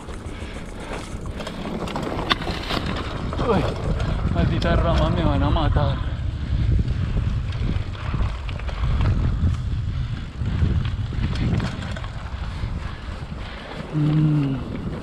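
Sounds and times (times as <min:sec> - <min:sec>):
bike tyre noise on dirt: 0:00.0 - 0:15.0
wind buffeting microphone: 0:00.0 - 0:15.0.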